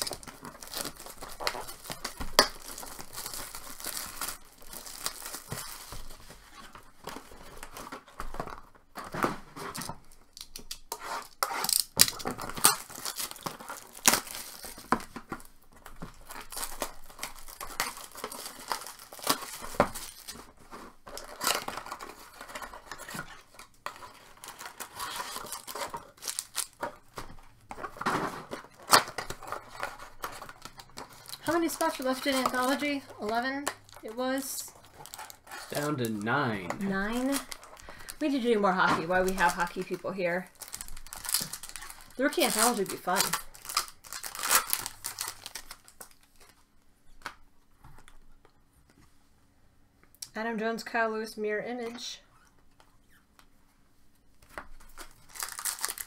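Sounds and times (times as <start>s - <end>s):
cards clicking and rustling: 0.0s - 40.0s, 40.6s - 46.6s, 54.4s - 56.0s
wrappers tearing and crinkling: 0.0s - 47.4s, 54.4s - 56.0s.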